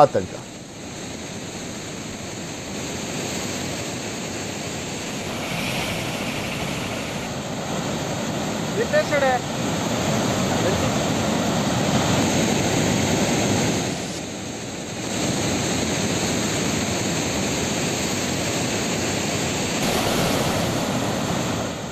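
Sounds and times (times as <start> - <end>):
rushing water roar: 0.0 - 21.9.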